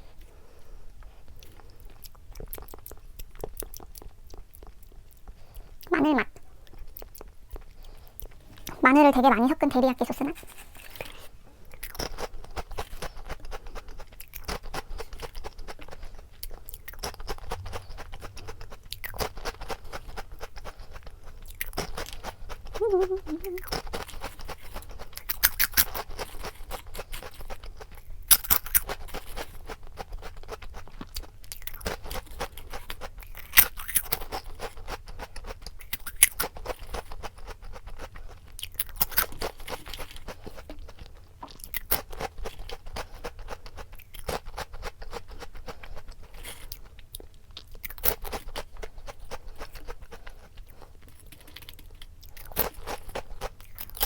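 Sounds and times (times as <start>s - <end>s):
chewing crunchy chips: 0.0s - 54.0s.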